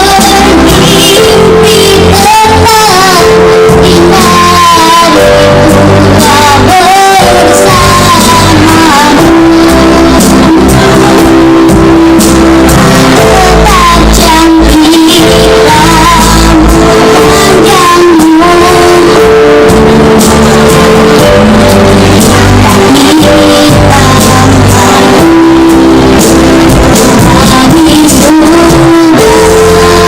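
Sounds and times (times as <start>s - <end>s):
child singing: 0.0s - 12.2s, 13.0s - 25.9s, 26.8s - 30.0s.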